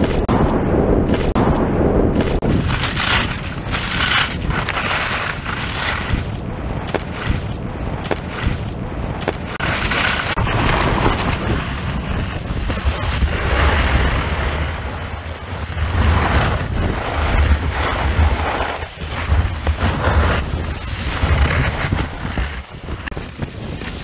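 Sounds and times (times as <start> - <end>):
wind rumbling on microphone: 0.0 - 24.0
skis scraping through snow: 2.2 - 24.0.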